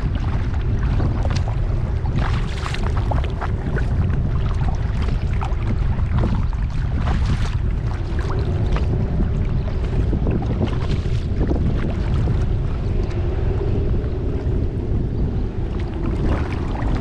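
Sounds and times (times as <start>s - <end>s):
paddle splashing water: 0.0s - 14.8s, 15.4s - 17.0s
water lapping at hull: 0.0s - 17.0s
wind on microphone: 0.0s - 17.0s.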